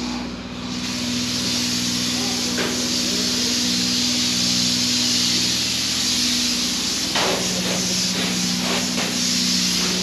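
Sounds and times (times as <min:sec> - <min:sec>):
low machine hum: 0:00.0 - 0:10.0
spray foam gun hissing: 0:00.1 - 0:10.0.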